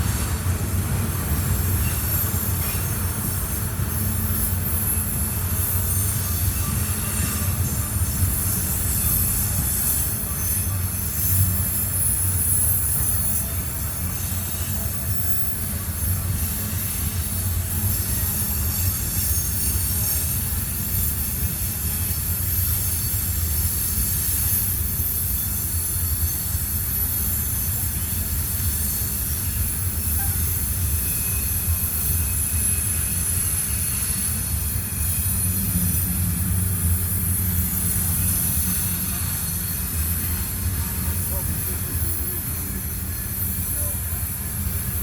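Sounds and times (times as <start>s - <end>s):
train cars rumbling: 0.0s - 45.0s
wheel flange squeal: 1.3s - 45.0s.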